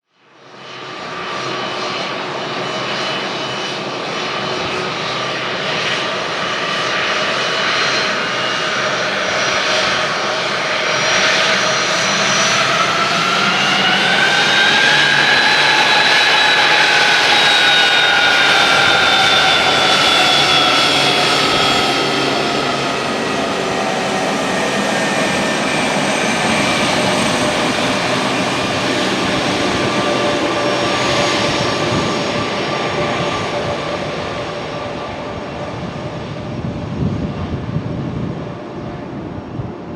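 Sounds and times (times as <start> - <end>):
jet engines whining: 0.5 - 39.9.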